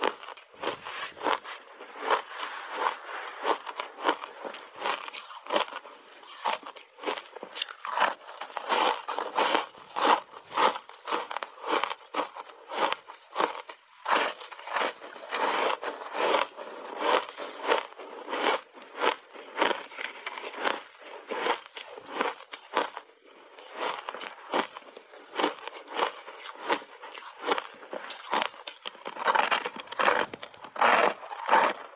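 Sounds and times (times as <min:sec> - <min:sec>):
chewing crunchy ice: 0:00.0 - 0:31.9.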